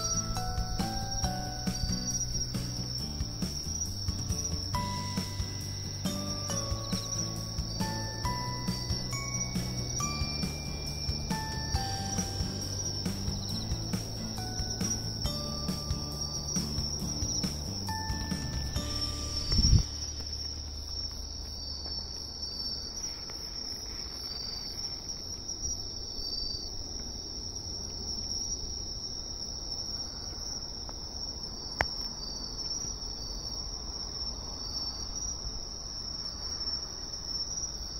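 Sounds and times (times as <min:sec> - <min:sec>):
insects trilling: 0:00.0 - 0:37.9
short insect chirps: 0:00.0 - 0:37.9.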